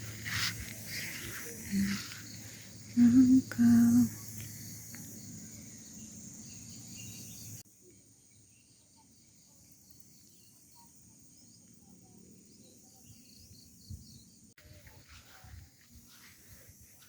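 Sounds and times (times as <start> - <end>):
higher insect chirps: 0.0 - 14.5
insects chirping: 0.0 - 17.0.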